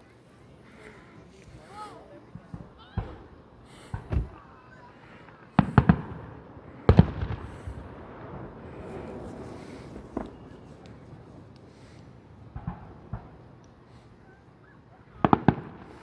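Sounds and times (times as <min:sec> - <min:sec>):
fireworks bursting: 0:00.6 - 0:16.0.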